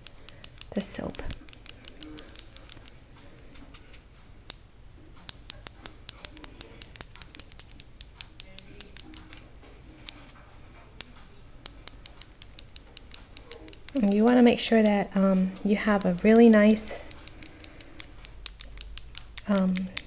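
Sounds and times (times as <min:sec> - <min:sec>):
brush tapping: 0:00.0 - 0:03.0, 0:05.2 - 0:10.3, 0:10.9 - 0:20.0.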